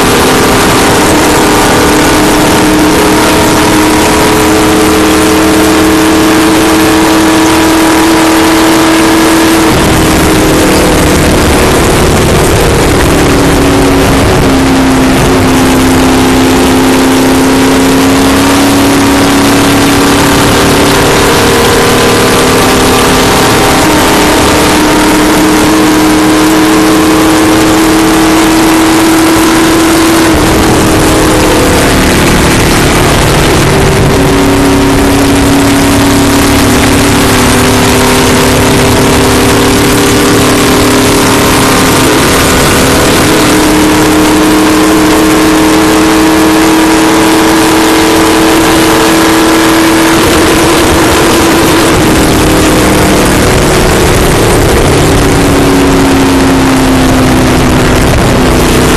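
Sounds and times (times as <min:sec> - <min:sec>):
race car engine running flat out: 0:00.0 - 0:58.9.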